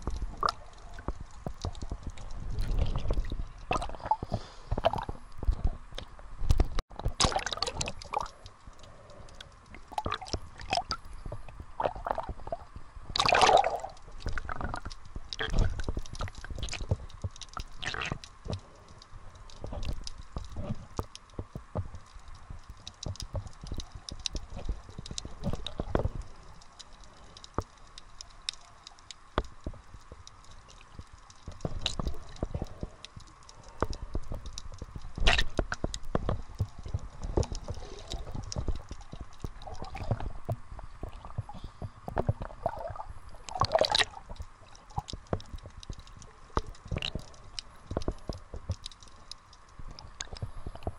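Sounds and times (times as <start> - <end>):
clicks and pops: 0.0 - 50.9
underwater moving water: 0.0 - 50.9.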